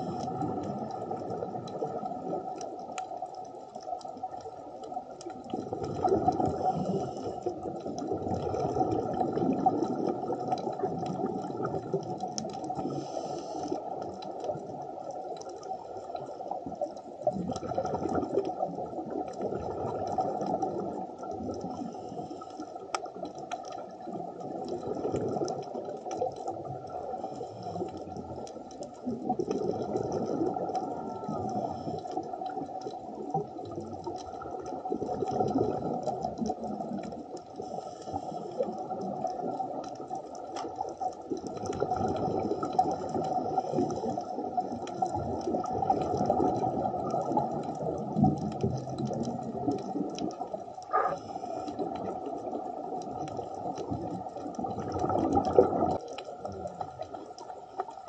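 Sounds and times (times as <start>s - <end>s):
muffled underwater bubbling: 0.0s - 58.0s.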